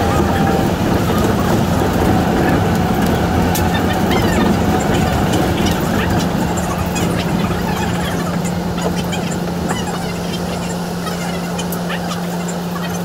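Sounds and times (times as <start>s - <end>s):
monorail cabin rumble: 0.0s - 13.0s.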